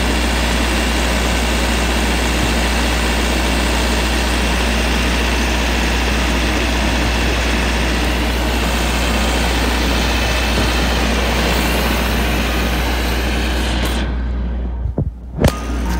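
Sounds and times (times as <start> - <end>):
generator engine droning: 0.0 - 15.9.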